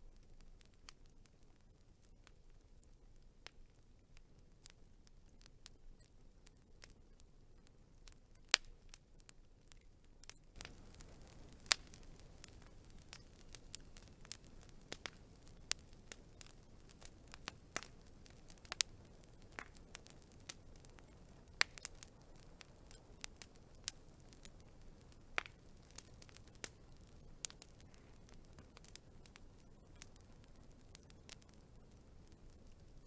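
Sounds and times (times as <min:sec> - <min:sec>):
faint steady hiss: 0:00.0 - 0:33.0
wood fire crackling: 0:00.0 - 0:33.0.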